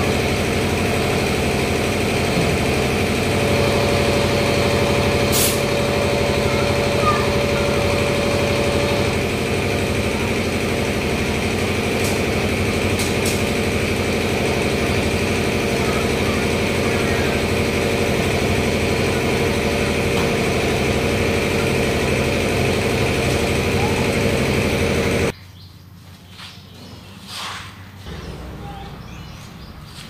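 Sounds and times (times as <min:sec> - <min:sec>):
machine motor humming: 0:00.0 - 0:25.3, 0:28.1 - 0:29.7.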